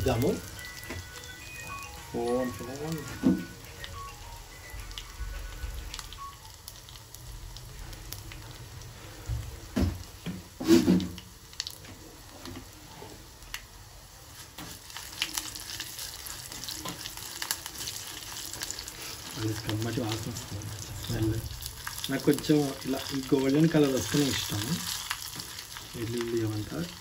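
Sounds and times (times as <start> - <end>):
spices sizzling in hot oil: 0.0 - 27.0.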